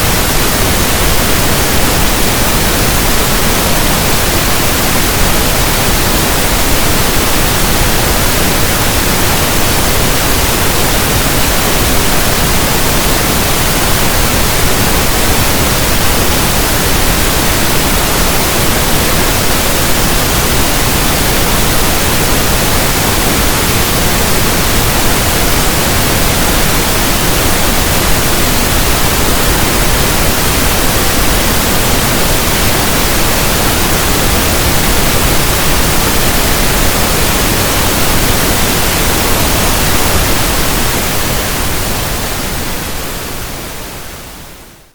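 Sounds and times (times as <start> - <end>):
steady pink noise hiss: 0.0 - 44.9.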